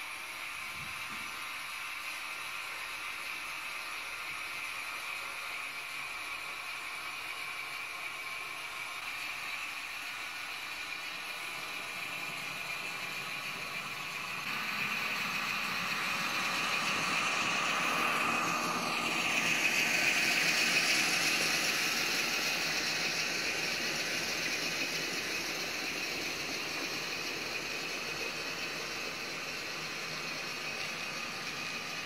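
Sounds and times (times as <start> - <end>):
model train motor whirring: 0.0 - 32.0
wheels running on rails: 4.9 - 32.0.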